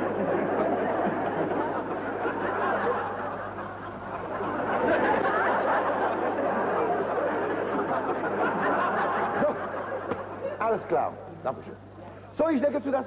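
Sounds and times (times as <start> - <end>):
studio audience laughing: 0.0 - 10.8.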